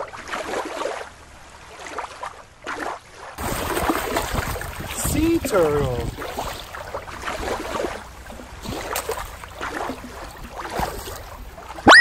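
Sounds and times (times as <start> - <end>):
small splashes: 0.0 - 12.0
water lapping over rock: 0.0 - 12.0.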